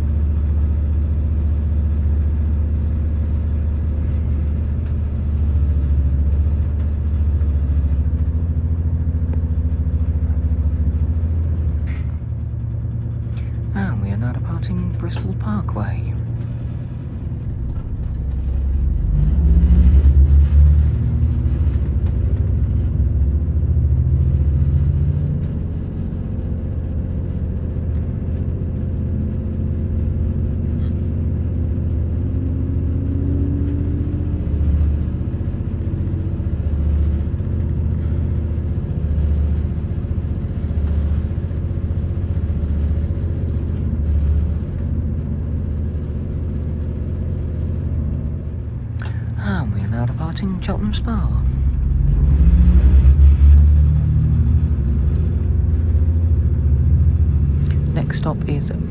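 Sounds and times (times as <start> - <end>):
diesel train rumbling at speed: 0.0 - 58.9.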